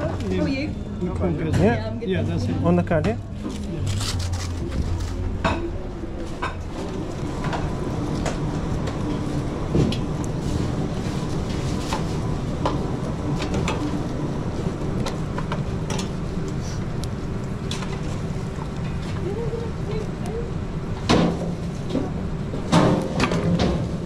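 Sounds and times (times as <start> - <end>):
kitchen equipment humming: 0.0 - 22.6.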